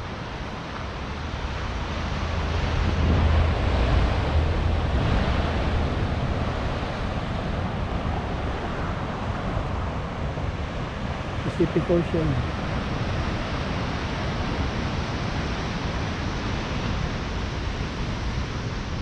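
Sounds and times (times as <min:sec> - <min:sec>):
surf washing on shore: 0:00.0 - 0:19.0
wind rumbling on microphone: 0:00.0 - 0:19.0.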